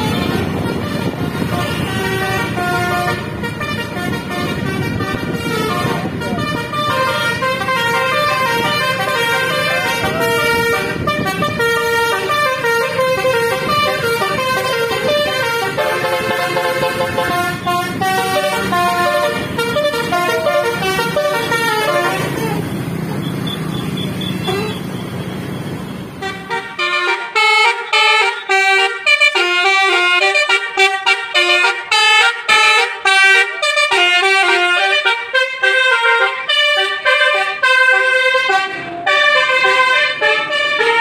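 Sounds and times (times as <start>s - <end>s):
bus horn playing melody: 0.0s - 23.0s, 23.8s - 24.9s, 26.1s - 41.0s
bus engine: 0.0s - 41.0s
traffic noise: 0.0s - 41.0s.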